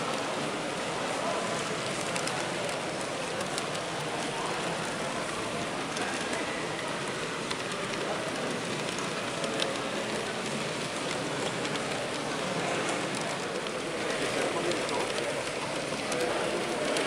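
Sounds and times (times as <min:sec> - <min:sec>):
rushing hall background noise: 0:00.0 - 0:17.0
faint clicks: 0:01.8 - 0:17.0.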